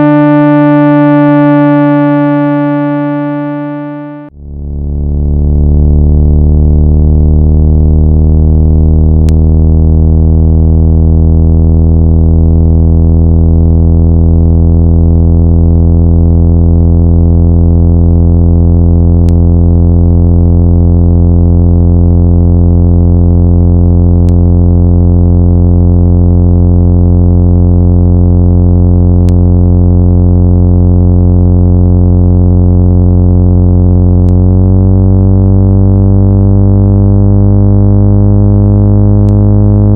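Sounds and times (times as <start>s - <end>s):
low synthesized tone: 0.0s - 39.9s.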